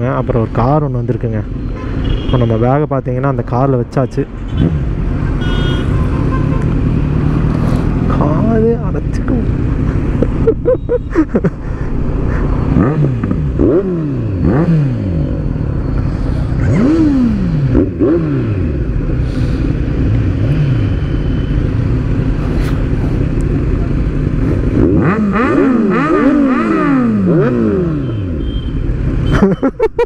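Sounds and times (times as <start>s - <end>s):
motorcycles idling and revving: 0.0s - 30.0s.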